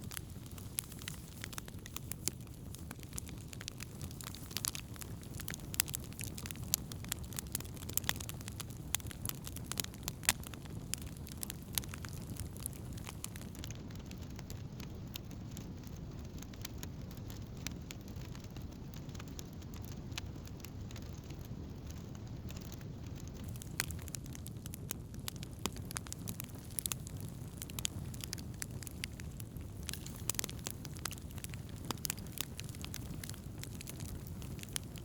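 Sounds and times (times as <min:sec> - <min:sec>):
campfire crackling and popping: 0:00.0 - 0:35.0
low rumble of fire: 0:00.0 - 0:35.0.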